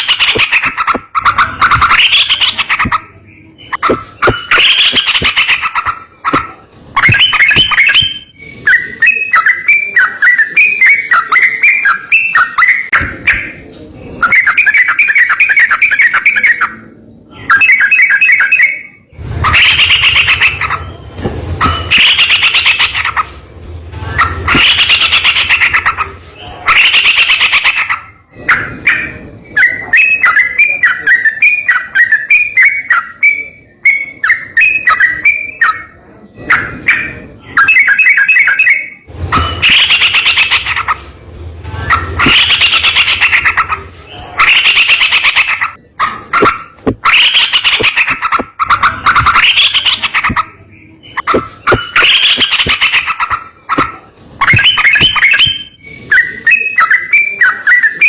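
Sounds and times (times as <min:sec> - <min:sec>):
bulbul singing rolling song: 0:00.0 - 0:58.0.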